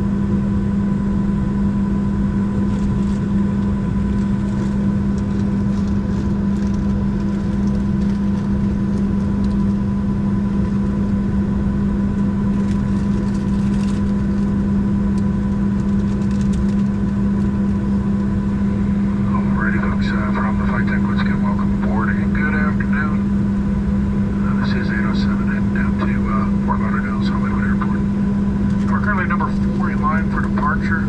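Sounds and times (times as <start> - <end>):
airplane cabin drone: 0.0 - 31.0.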